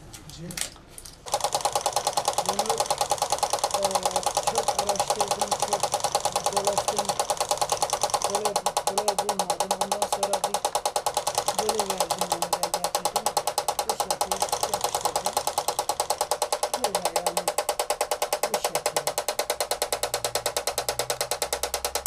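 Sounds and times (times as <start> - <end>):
model helicopter rotor chopping: 1.3 - 22.0.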